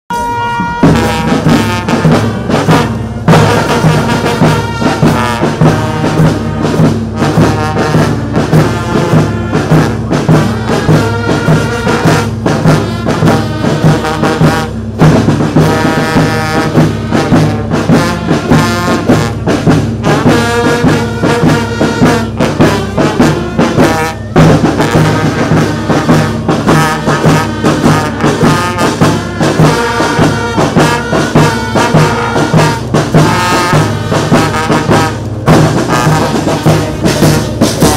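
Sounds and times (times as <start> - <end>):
brass band playing: 0.1 - 37.9
drum: 0.1 - 37.9.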